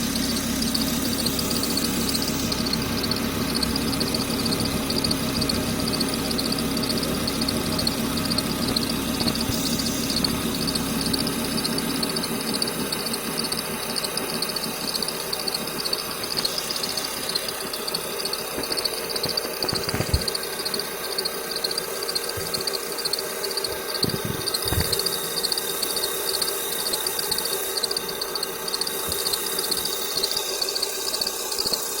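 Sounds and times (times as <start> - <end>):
bearing squealing: 0.0 - 31.9
machine running: 0.0 - 32.0.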